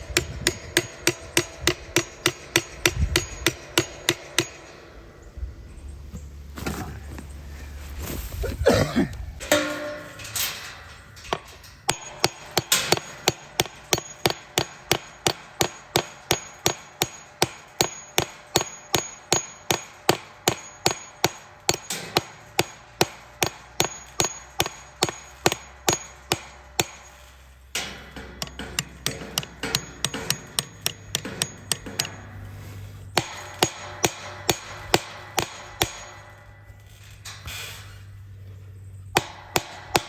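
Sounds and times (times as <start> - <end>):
hammer blows: 0.0 - 5.3, 8.7 - 37.8, 39.2 - 40.0.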